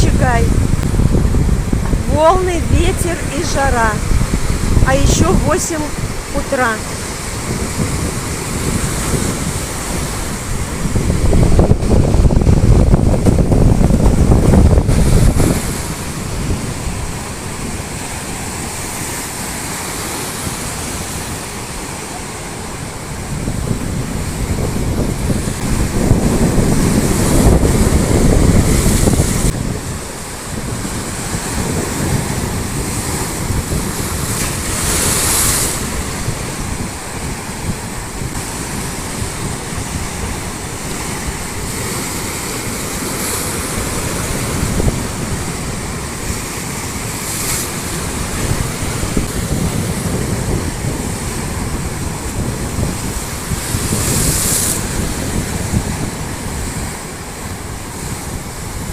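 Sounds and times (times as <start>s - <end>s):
waves washing onto beach: 0.0s - 58.9s
wind buffeting microphone: 0.0s - 58.9s.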